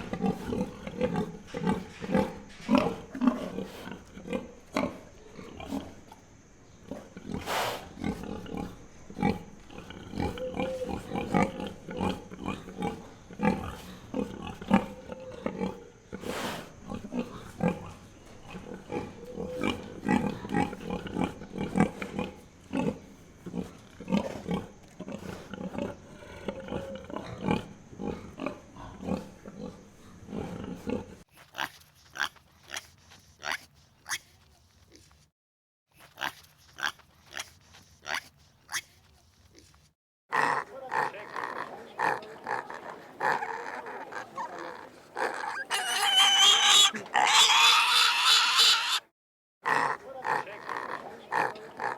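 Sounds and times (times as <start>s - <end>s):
pigs grunting: 0.0s - 34.3s, 40.3s - 51.9s.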